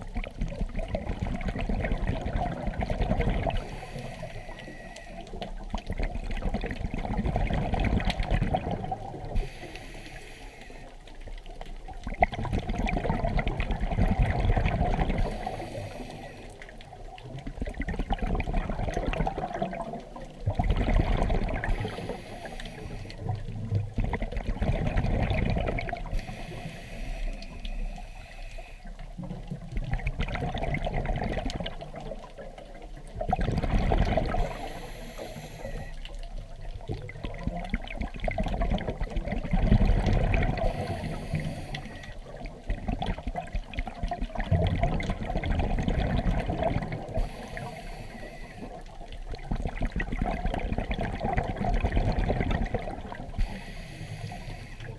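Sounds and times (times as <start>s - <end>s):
muffled underwater rushing water: 0.0s - 54.9s.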